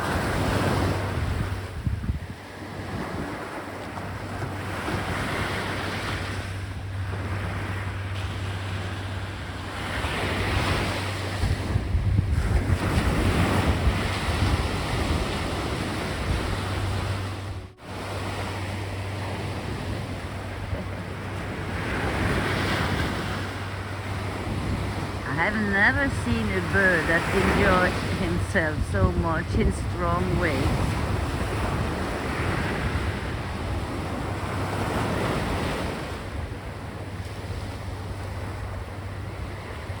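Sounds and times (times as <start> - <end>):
wind buffeting the microphone: 0.0 - 17.8, 18.6 - 40.0
waves breaking on a beach: 0.0 - 40.0.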